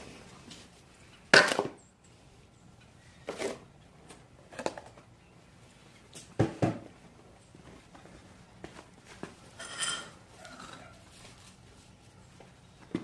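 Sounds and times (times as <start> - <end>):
rustling and scraping handling noise: 0.0 - 13.0.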